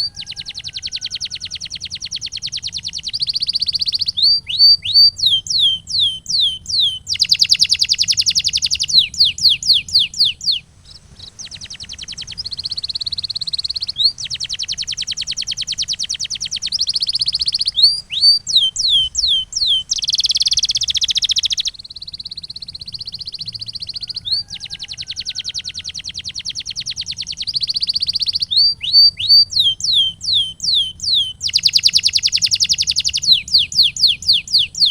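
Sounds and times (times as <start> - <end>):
canary singing: 0.0 - 34.9
faint low hum: 0.0 - 34.9.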